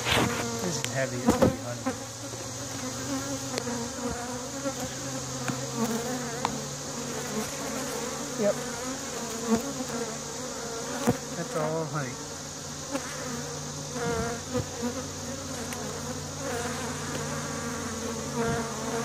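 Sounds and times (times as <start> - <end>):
bee colony humming: 0.0 - 19.0
bees flying past: 0.0 - 19.0.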